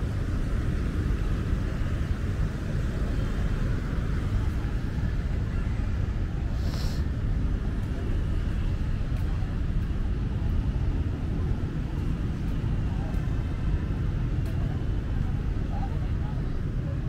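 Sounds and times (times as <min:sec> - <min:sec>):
passing traffic rumble: 0:00.0 - 0:17.0
people's voices: 0:00.0 - 0:17.0.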